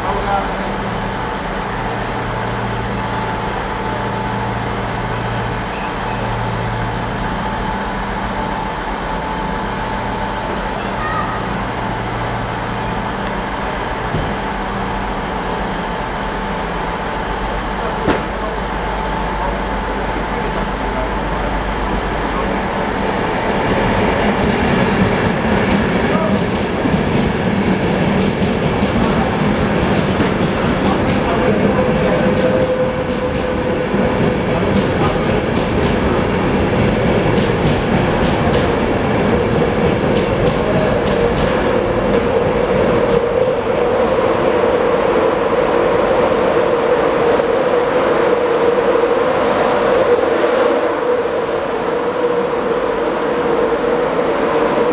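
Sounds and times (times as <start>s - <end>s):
train wheels rushing on rail: 0.0s - 54.9s.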